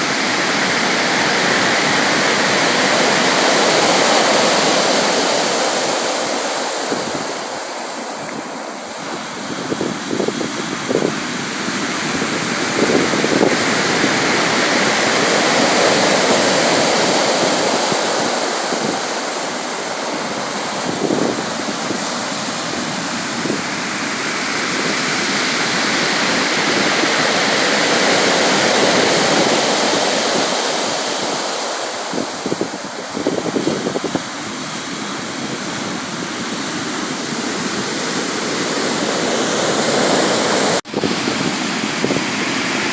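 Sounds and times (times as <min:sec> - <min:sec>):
strong wave splashes: 0:00.0 - 0:42.9
waves rushing: 0:00.0 - 0:42.9.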